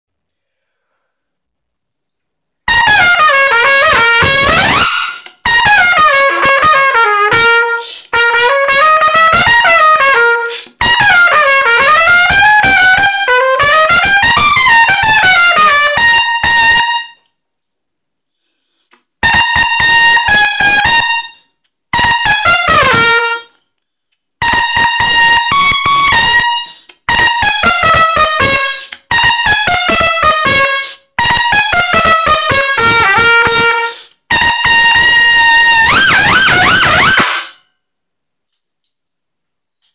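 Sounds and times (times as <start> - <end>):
solo trumpet: 2.7 - 17.4, 19.2 - 23.7, 24.4 - 37.8.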